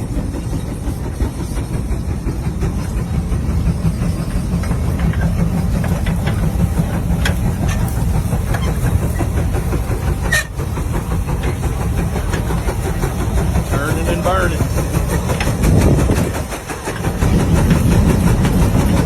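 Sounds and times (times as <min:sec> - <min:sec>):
tractor engine running: 0:00.0 - 0:19.0
rattling clicks: 0:00.4 - 0:19.0.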